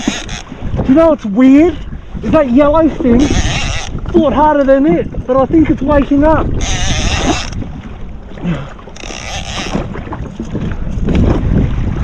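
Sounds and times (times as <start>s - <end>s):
water splashing: 0.0s - 12.0s
wind on microphone: 0.0s - 12.0s.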